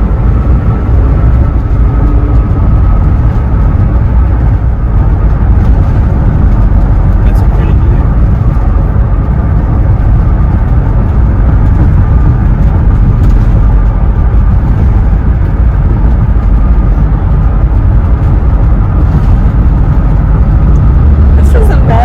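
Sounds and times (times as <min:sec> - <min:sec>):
van road and wind noise: 0:00.0 - 0:22.0.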